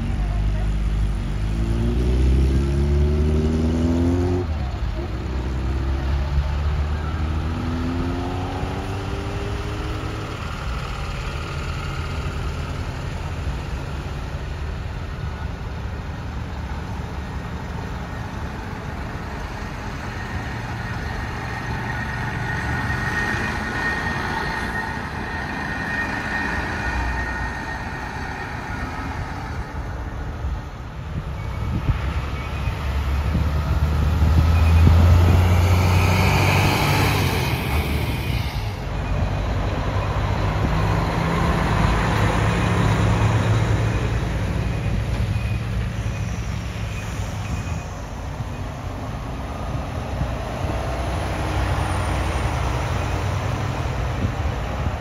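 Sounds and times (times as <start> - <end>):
diesel trucks driving past: 0.0 - 55.0.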